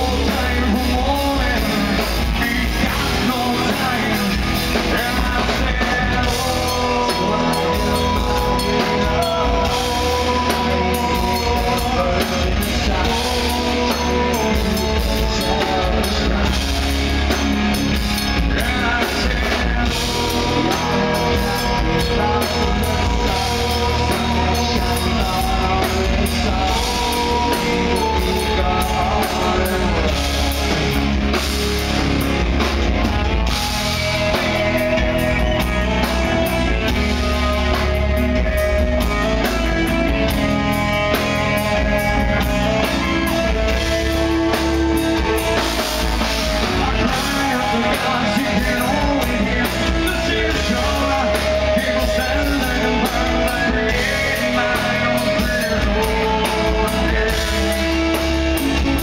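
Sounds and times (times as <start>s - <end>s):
distorted guitars: 0.0s - 59.0s
drum kit: 0.0s - 59.0s
live rock band playing: 0.0s - 59.0s
person singing: 0.0s - 59.0s.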